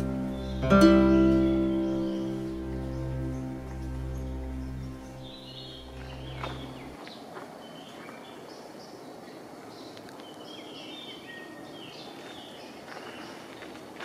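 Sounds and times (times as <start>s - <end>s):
birds chirping: 0.0s - 13.9s
outdoor background hush: 0.0s - 14.0s.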